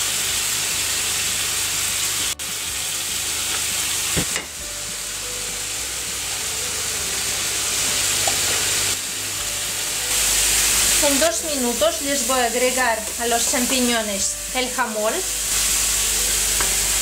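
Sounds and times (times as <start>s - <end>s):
mushrooms sizzling in a pan: 0.0s - 17.0s.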